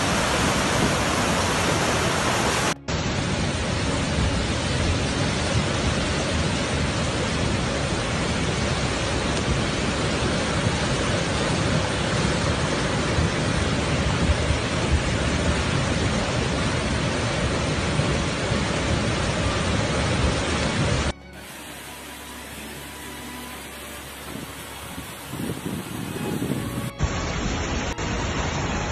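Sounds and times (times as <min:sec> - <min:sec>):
floodwater rushing: 0:00.0 - 0:28.9.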